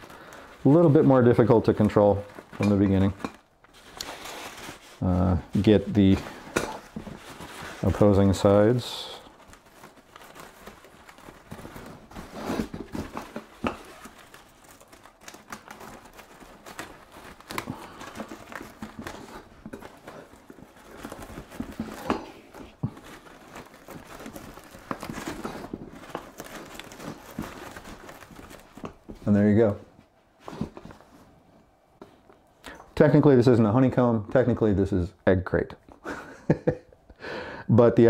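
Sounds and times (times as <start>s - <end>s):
fabric rustling and crinkling: 0.0s - 34.6s.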